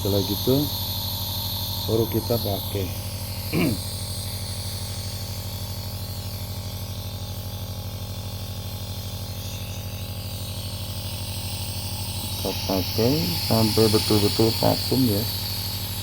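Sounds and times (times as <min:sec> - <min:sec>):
nebulizer compressor humming: 0:00.0 - 0:16.0.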